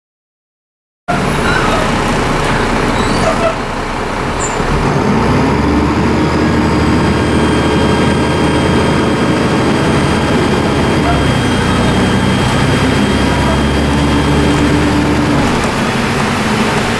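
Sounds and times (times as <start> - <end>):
turbocharger whistle: 1.1 - 15.7
bus diesel engine rumble: 1.1 - 16.9.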